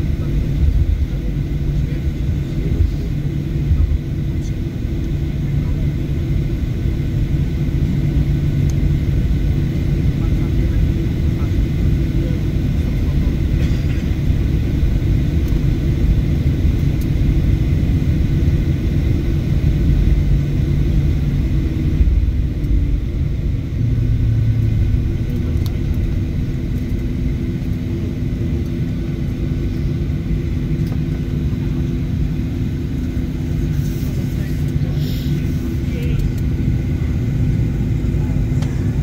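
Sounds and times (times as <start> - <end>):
airliner cabin low rumble: 0.0 - 39.0.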